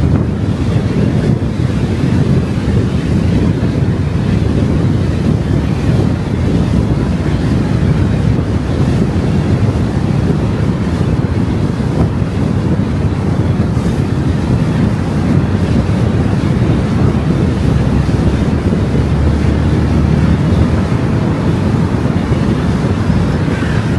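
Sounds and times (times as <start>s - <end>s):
road and wind noise: 0.0s - 23.9s.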